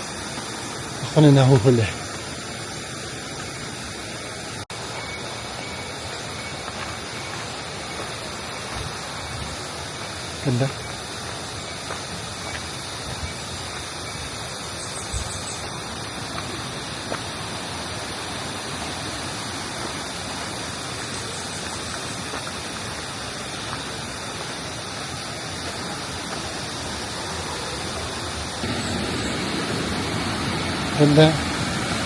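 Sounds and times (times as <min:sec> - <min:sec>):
water cascading over rocks: 0:00.0 - 0:32.0.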